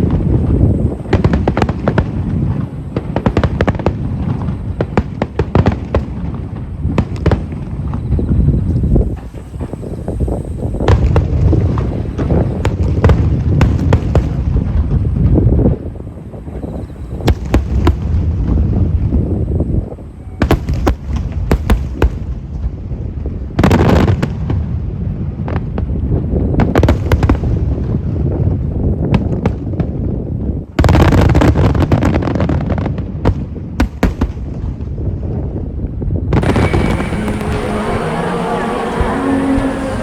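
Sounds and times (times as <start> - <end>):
fireworks booms and cracks: 0.0 - 35.6, 36.2 - 40.0
fireworks crackle and rumble: 0.0 - 40.0.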